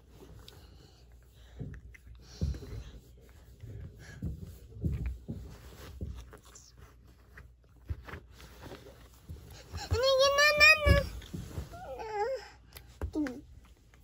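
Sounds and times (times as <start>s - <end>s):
rustling on a bed: 0.0s - 13.9s.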